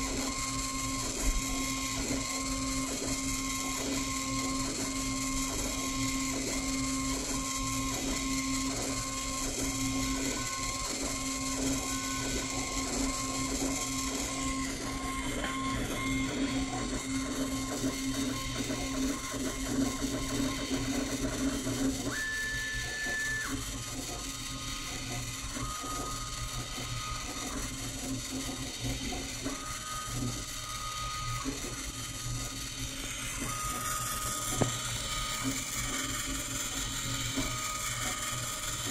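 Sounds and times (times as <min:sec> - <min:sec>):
servo film feed chirps: 0:00.0 - 0:38.9
stepper motors whining: 0:00.0 - 0:38.9.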